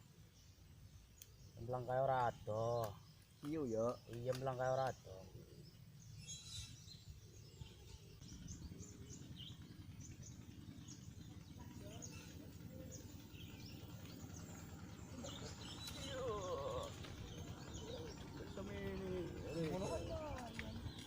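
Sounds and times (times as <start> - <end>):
low steady rumble: 0.0 - 21.0
small birds chirping: 0.0 - 21.0.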